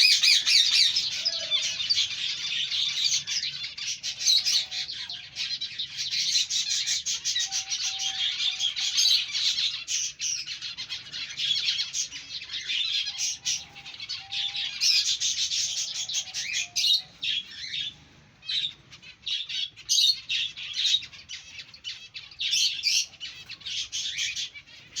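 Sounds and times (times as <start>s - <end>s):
finches chirping: 0.0s - 25.0s.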